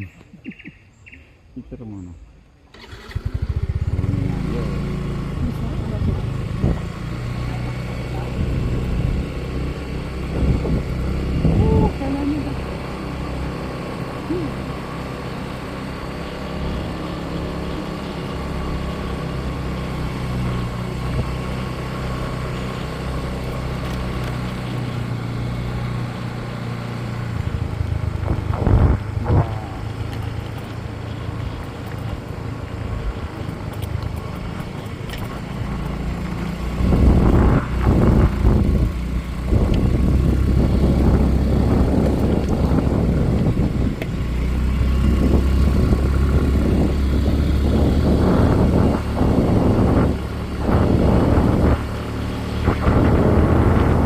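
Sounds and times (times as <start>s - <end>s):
motorcycle engine rumble: 0.0s - 54.0s
road noise: 0.0s - 54.0s.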